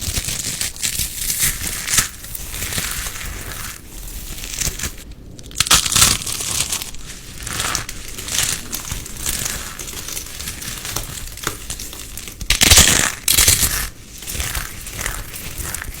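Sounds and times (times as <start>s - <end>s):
crinkling and crushing: 0.0s - 16.0s.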